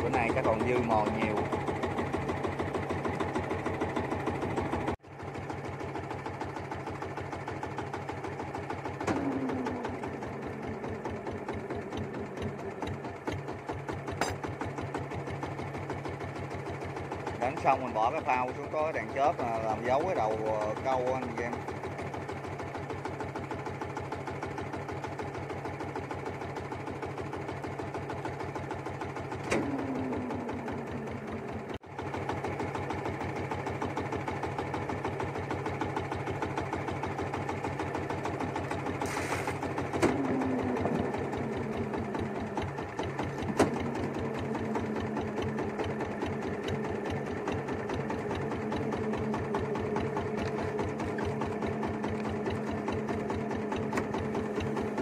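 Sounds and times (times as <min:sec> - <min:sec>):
small boat engine chattering: 0:00.0 - 0:55.0.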